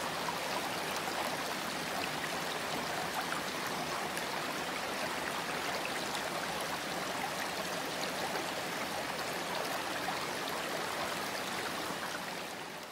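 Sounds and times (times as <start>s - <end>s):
stream running water: 0.0s - 12.9s.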